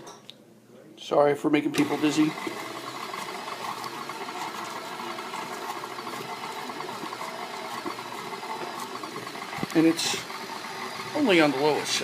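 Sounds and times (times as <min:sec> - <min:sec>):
electric mixer whirring: 0:01.7 - 0:12.0.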